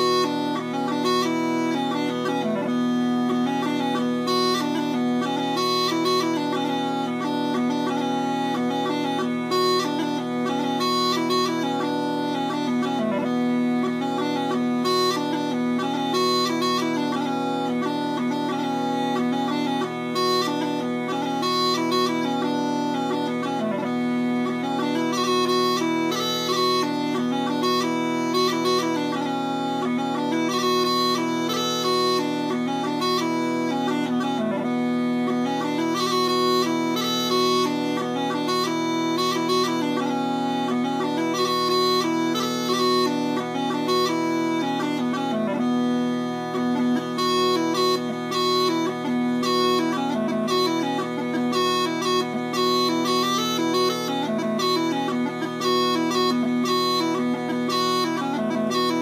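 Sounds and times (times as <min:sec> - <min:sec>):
bagpipe chanter dance tune: 0:00.0 - 0:59.0
bagpipe drone: 0:00.0 - 0:59.0.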